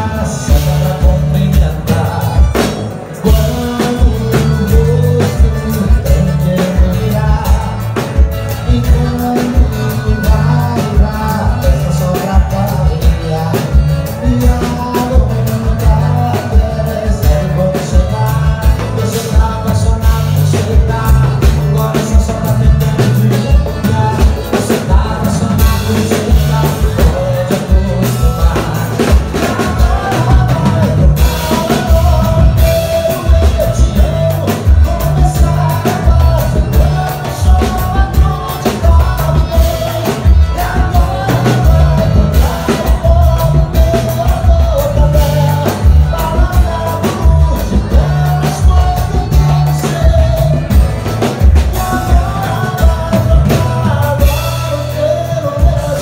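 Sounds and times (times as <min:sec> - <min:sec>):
accordion: 0:00.0 - 0:56.0
live band music: 0:00.0 - 0:56.0
man singing into microphone: 0:00.0 - 0:56.0.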